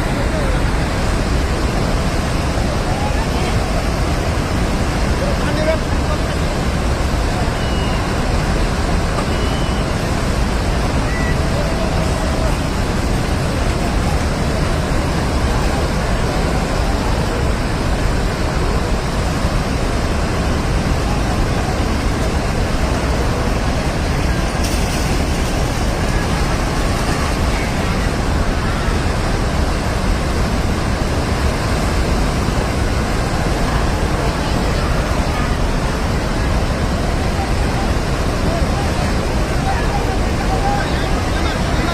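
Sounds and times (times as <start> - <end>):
river water rushing: 0.0 - 41.9.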